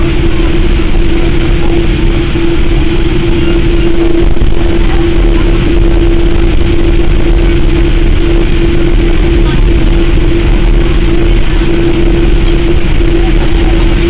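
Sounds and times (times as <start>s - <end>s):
aircraft cabin hum: 0.0s - 14.0s
low rumble: 0.0s - 14.0s.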